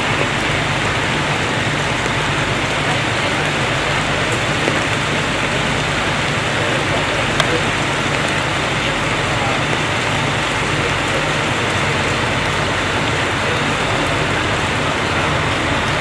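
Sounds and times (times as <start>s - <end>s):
low engine hum: 0.0s - 16.0s
steady rain falling: 0.0s - 16.0s.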